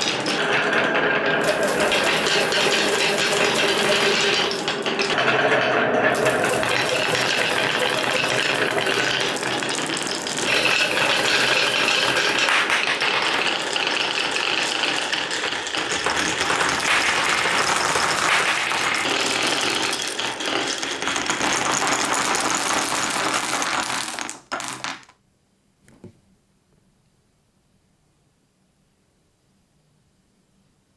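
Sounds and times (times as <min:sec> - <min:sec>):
marbles rattling down wooden tracks: 0:00.0 - 0:25.2.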